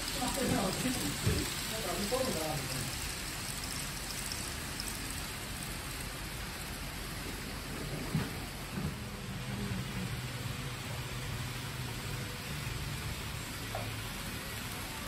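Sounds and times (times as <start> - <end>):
model train rolling hiss: 0.0 - 15.0.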